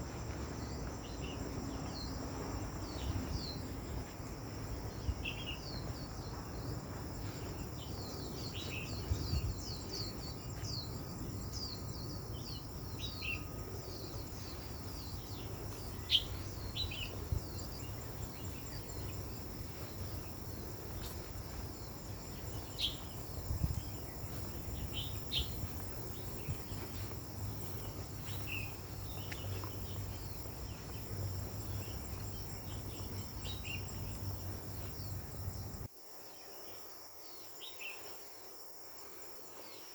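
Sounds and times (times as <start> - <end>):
birds chirping: 0.0 - 35.9
insects droning: 0.0 - 39.9.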